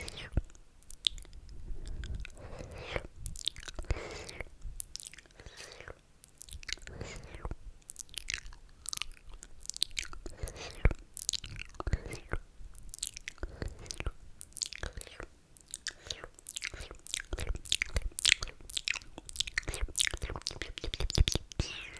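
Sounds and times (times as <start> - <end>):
lip and tongue clicks: 0.0 - 21.9.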